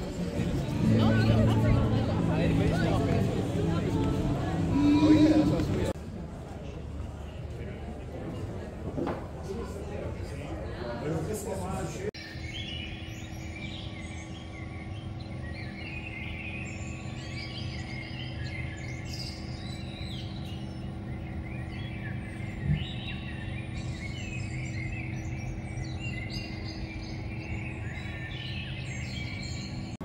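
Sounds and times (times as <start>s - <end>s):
birds chirping and twittering: 0.0s - 6.0s, 11.2s - 30.0s
steady low hum: 0.0s - 8.8s, 9.8s - 30.0s.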